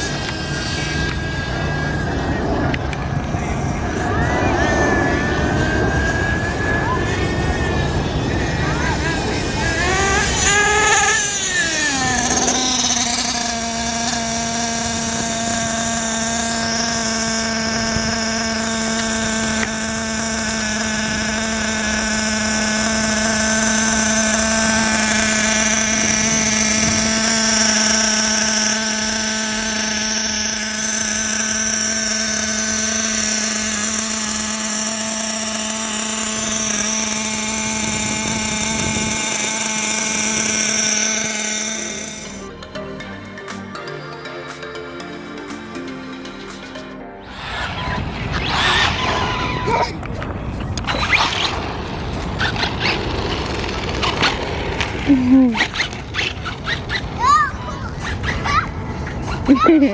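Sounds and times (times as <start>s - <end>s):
rc car motor whining: 0.0s - 59.9s.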